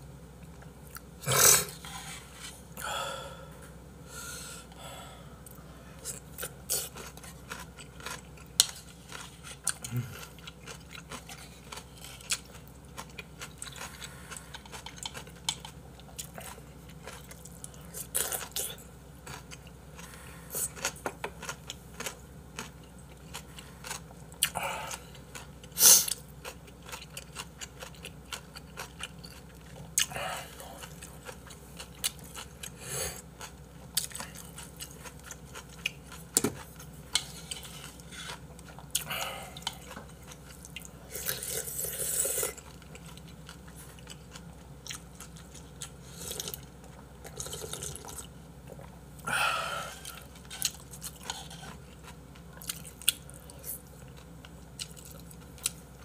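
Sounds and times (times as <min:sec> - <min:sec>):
person chewing: 0:00.4 - 0:02.0, 0:04.7 - 0:56.0.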